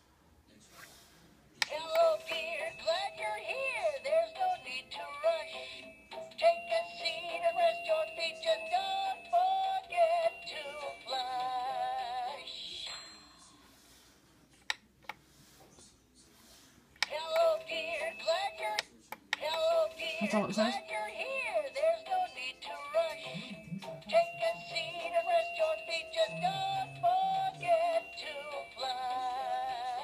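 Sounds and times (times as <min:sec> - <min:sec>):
toy singing with music: 0:01.6 - 0:13.9, 0:17.0 - 0:30.0.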